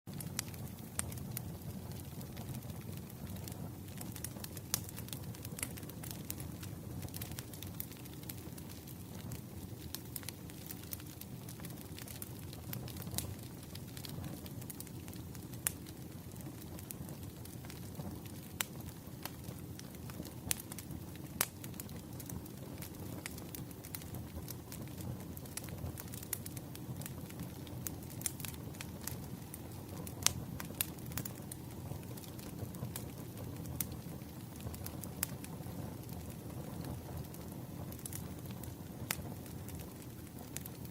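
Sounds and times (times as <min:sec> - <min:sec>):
fire crackling and popping: 0:00.1 - 0:40.9
fire rumbling: 0:00.1 - 0:40.9
hiss of flame: 0:00.2 - 0:40.9.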